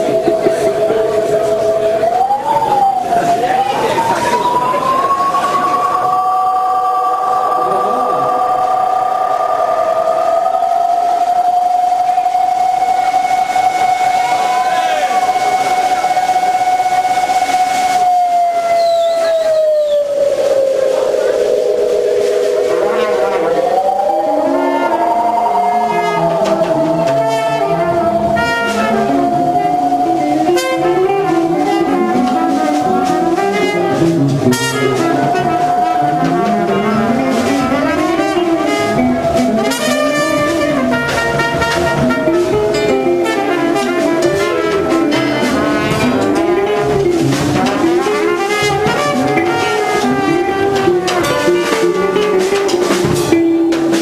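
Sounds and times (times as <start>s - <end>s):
drums and cymbals ticking: 0.0s - 54.0s
long held wavering note: 0.0s - 54.0s
lower melodic line: 0.0s - 54.0s.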